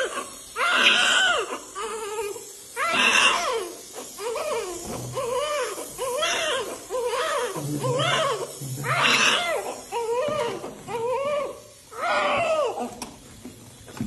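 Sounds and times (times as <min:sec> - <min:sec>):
newborn baby crying: 0:00.0 - 0:13.0.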